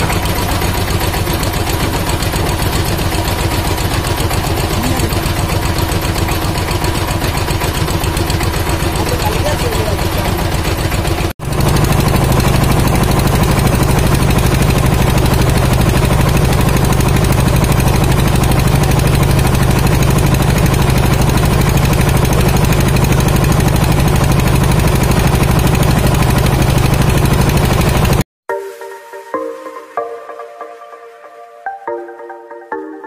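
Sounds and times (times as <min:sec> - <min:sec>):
boat engine running: 0:00.0 - 0:28.2.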